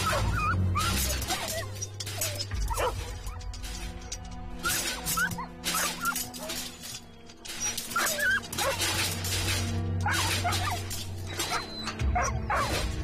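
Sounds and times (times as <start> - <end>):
dog barking and yelping: 0.0 - 3.4, 4.6 - 6.7, 7.5 - 13.0
background music: 0.0 - 13.0.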